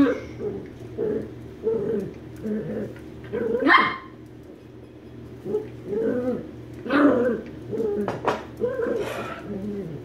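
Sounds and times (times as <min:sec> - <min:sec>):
small dogs growling and barking: 0:00.0 - 0:04.4, 0:05.3 - 0:10.0.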